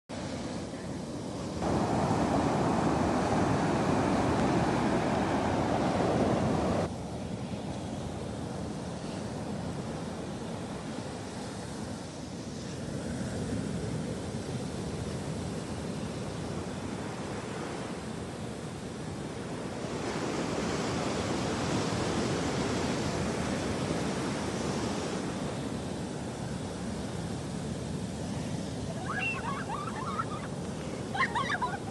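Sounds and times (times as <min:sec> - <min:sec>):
ocean waves washing: 0:00.1 - 0:31.9.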